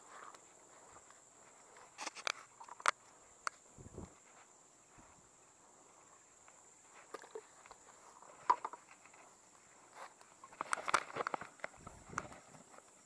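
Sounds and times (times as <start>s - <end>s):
footsteps through vegetation: 0.0s - 13.0s.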